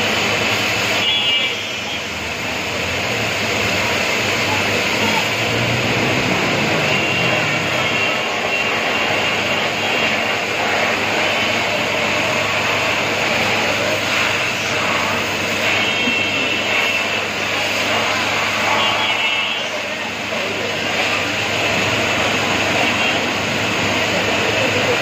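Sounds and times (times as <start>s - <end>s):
pressure washer spraying: 0.0s - 25.0s.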